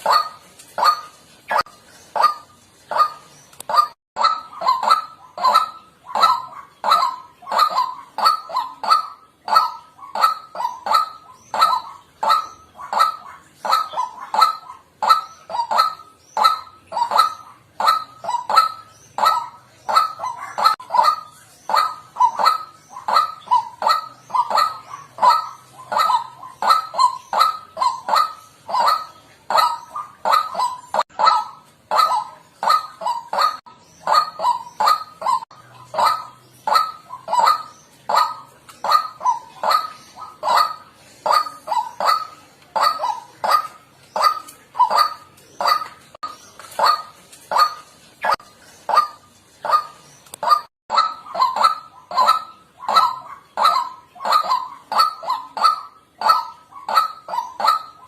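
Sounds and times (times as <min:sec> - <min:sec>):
waterhen calling: 0:00.0 - 0:58.0.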